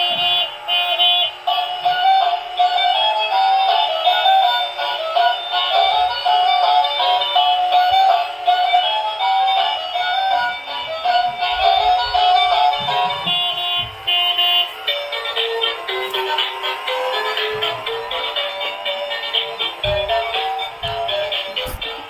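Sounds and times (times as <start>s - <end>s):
electronic toy tune with synth singing: 0.0s - 22.0s.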